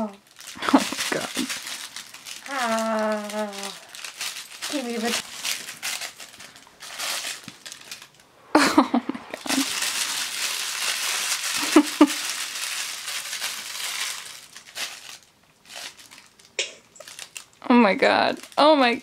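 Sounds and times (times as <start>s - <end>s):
plush toy crinkling and rustling: 0.0s - 8.3s, 9.3s - 19.0s.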